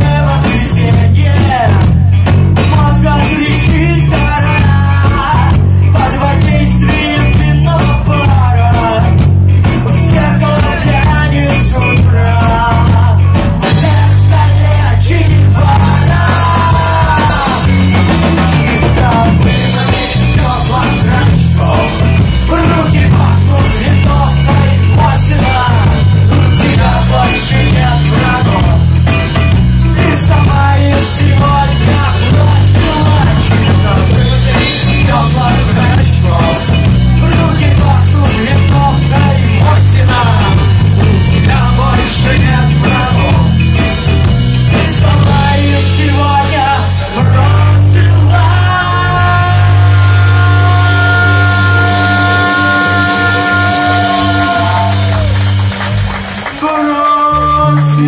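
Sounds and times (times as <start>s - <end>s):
person singing: 0.0s - 43.6s, 44.7s - 55.4s, 56.5s - 58.0s
rock band playing live: 0.0s - 58.0s.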